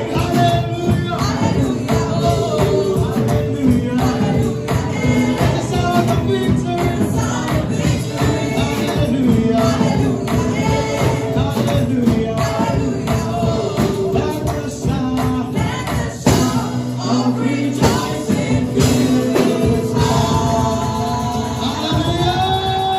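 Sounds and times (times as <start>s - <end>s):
tambourine beating: 0.0s - 17.0s, 17.7s - 22.9s
group singing gospel with band: 0.0s - 22.9s.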